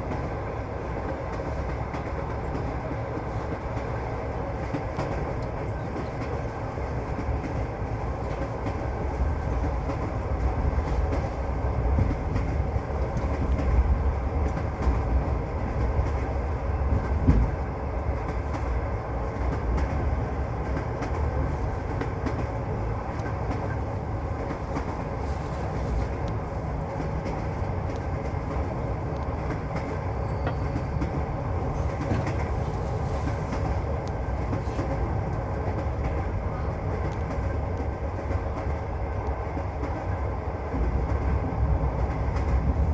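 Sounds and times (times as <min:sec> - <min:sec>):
train rumble on rails: 0:00.0 - 0:42.9.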